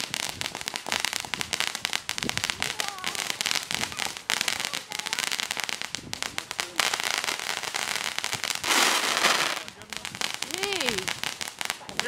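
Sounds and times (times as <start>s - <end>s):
fireworks crackling and hissing: 0.0s - 12.0s.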